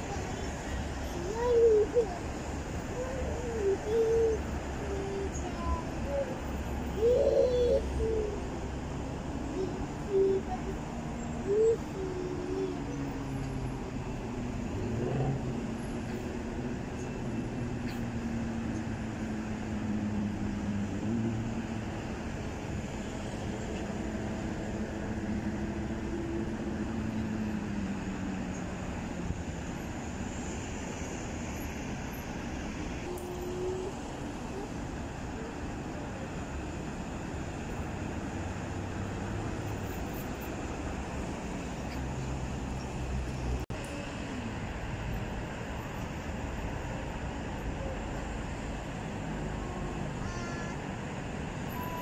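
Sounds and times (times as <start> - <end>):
passing engine: 0.0 - 52.0
urban traffic drone: 0.0 - 52.0.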